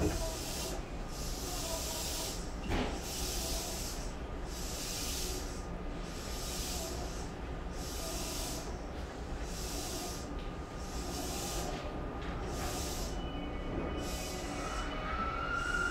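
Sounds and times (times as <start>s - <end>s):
low steady train rumble: 0.0s - 15.9s.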